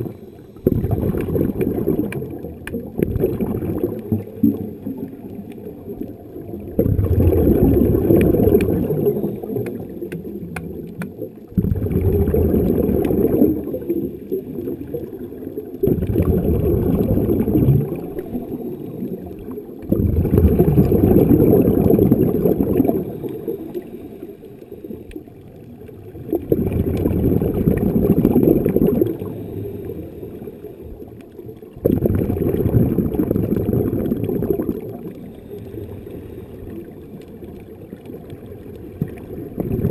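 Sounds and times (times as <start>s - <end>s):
regulator bubbles underwater: 0.0s - 39.9s.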